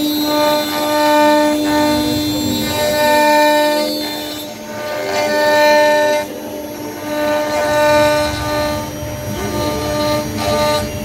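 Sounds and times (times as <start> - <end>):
router spindle whining: 0.0 - 11.0.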